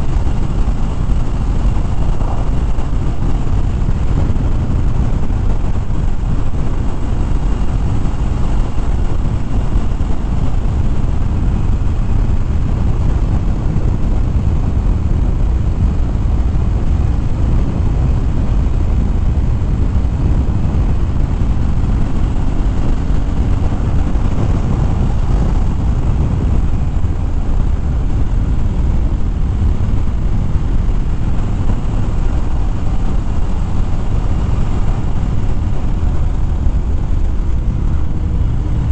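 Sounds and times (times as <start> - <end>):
motorcycle engine drone: 0.0 - 38.9
wind rush: 0.0 - 38.9.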